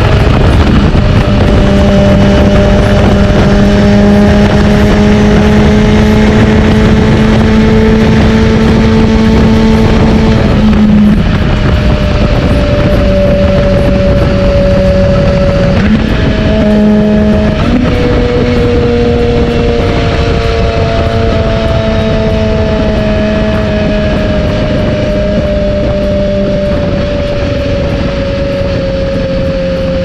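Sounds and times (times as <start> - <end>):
motorcycle engine revving: 0.0 - 30.0
steady rushing noise: 0.0 - 30.0.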